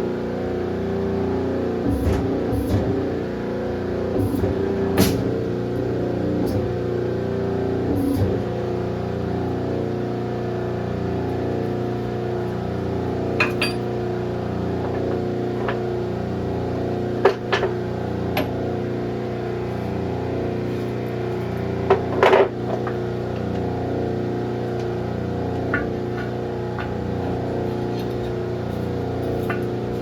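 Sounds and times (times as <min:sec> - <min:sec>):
hydraulic press humming: 0:00.0 - 0:30.0.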